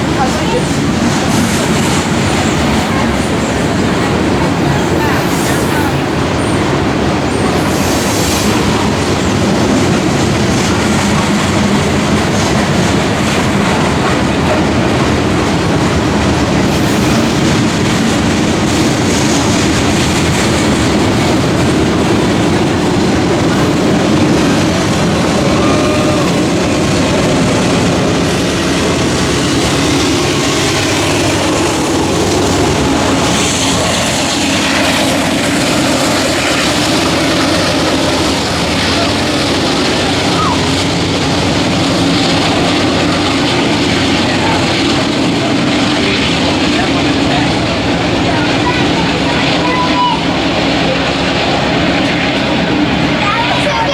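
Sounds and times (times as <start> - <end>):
train cars rumbling on rails: 0.0 - 53.9.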